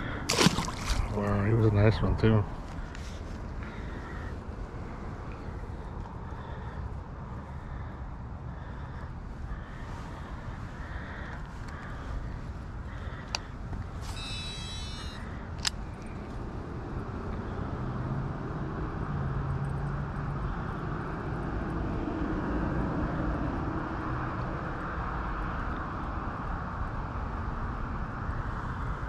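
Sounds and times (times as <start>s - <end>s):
distant engine drone: 0.0s - 25.9s.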